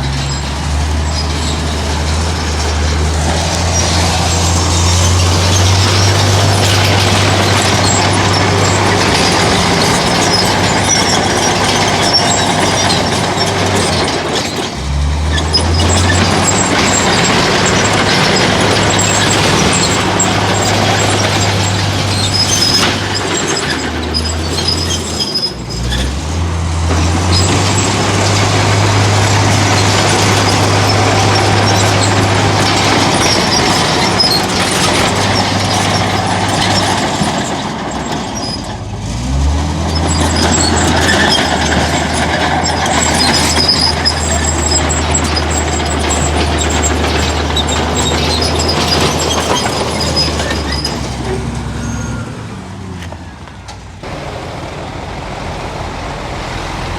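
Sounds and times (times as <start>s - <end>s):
rattling clatter: 0.0s - 52.2s
diesel machinery engine: 0.0s - 56.9s.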